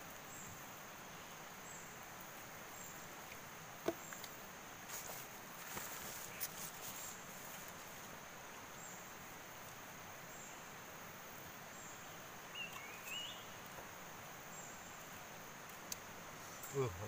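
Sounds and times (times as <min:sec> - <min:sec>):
crickets chorus: 0:00.0 - 0:17.0.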